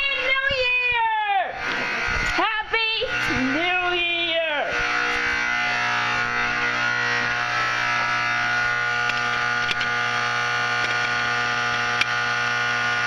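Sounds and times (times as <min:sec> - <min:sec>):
fire alarm horn buzzing: 0:00.0 - 0:13.0.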